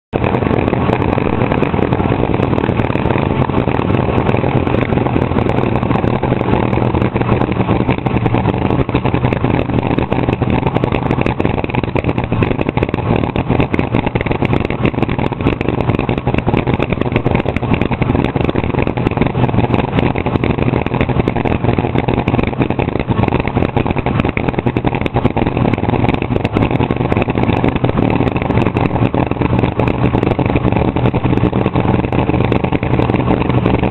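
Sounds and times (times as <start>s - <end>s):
dragster engine idling: 0.2s - 33.9s.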